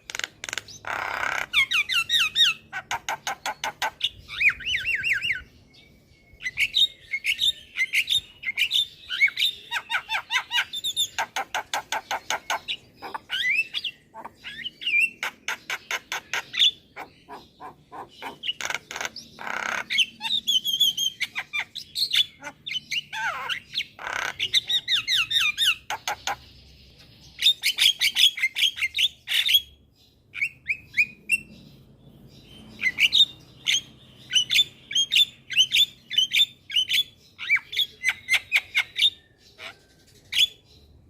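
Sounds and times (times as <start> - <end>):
harsh squawking bird calls: 0.0 - 40.9.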